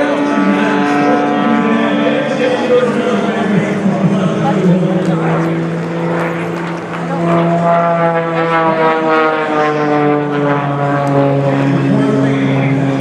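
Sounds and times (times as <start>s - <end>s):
aircraft engine passing: 0.0s - 13.0s.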